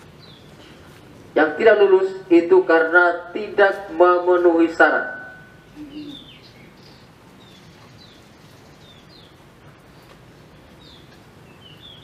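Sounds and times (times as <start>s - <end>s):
birds chirping: 0.0s - 2.2s, 2.8s - 12.0s
steady background hiss: 0.0s - 12.0s.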